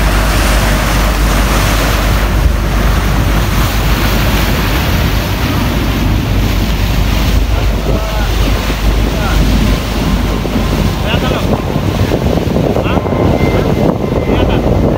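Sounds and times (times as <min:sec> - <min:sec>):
wash of water: 0:00.0 - 0:14.9
wind buffeting microphone: 0:00.0 - 0:14.9.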